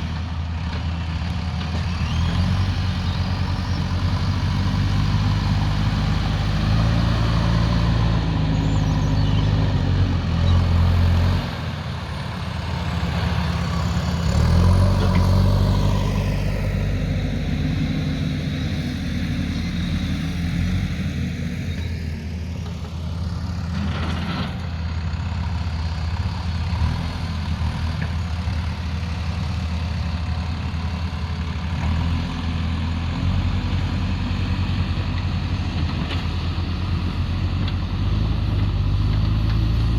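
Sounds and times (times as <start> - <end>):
heavy diesel engine working: 0.0 - 39.9.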